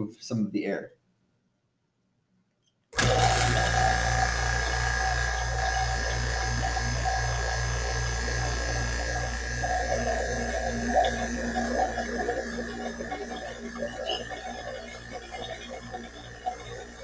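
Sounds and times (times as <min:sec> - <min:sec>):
vacuum pump humming and throbbing: 0:03.0 - 0:17.0.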